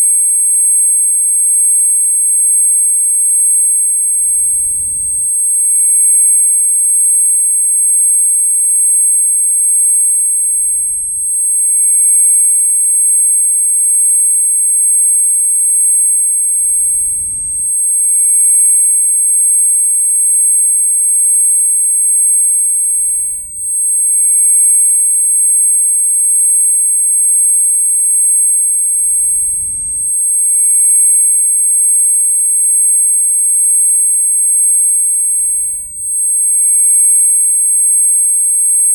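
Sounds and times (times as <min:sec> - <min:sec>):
high-pitched ringing tone: 0:00.0 - 0:38.9.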